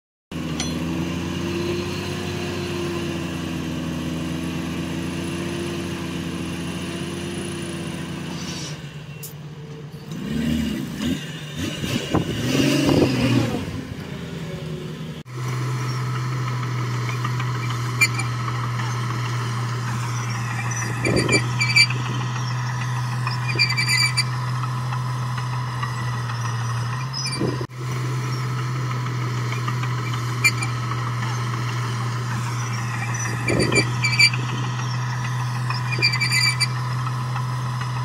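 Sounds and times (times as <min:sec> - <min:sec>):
diesel engines running: 0:00.3 - 0:38.0.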